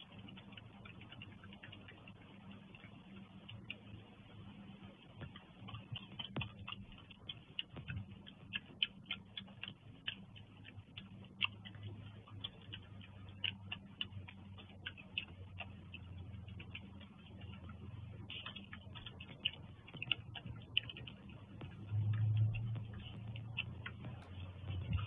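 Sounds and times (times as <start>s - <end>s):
animal chewing fruit: 0.0s - 25.0s
steady low hum: 0.0s - 25.0s.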